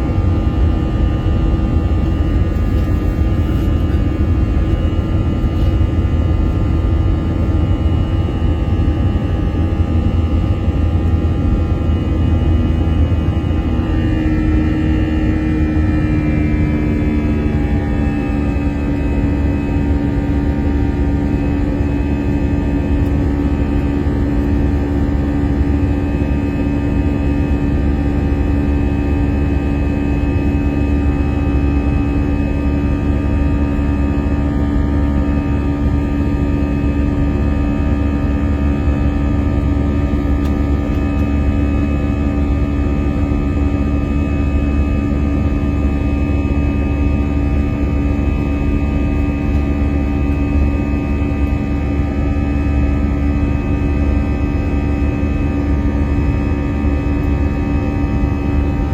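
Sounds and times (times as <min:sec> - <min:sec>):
jet engine cabin drone: 0:00.0 - 0:58.9.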